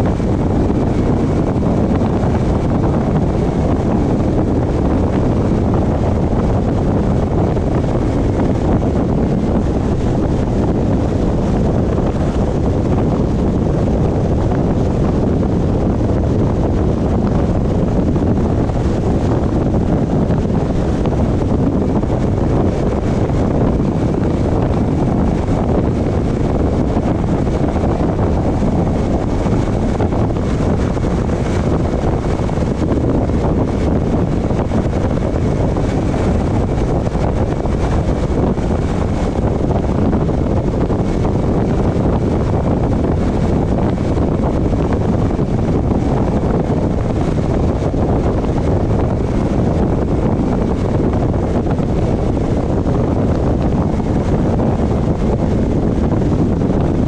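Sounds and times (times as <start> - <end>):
car road and wind noise: 0.0 - 57.0.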